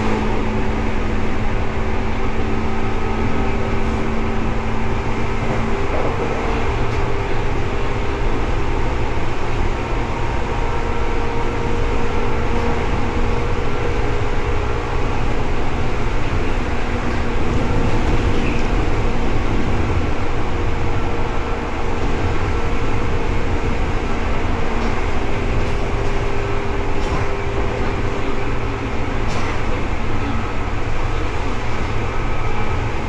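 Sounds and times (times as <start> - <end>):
traction equipment humming: 0.0 - 33.0
train wheels rumbling on rail: 0.0 - 33.0.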